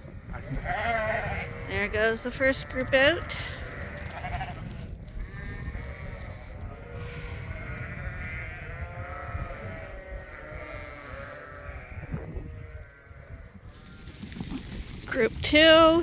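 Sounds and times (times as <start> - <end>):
sheep bleating: 0.2 - 13.4.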